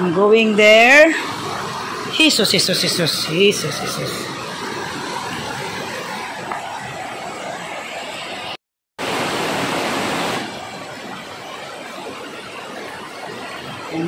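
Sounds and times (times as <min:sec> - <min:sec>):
waterfall rushing: 0:00.9 - 0:14.0.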